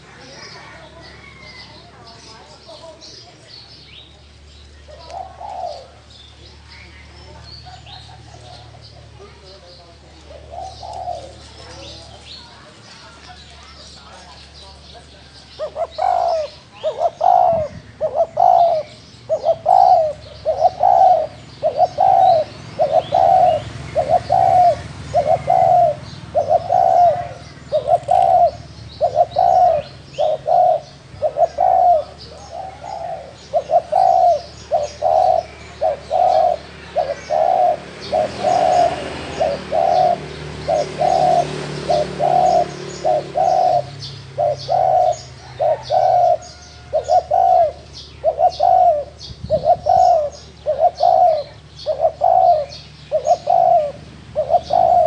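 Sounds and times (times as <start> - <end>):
small birds chirping: 0.0 - 55.0
dove cooing: 4.8 - 13.0, 15.2 - 55.0.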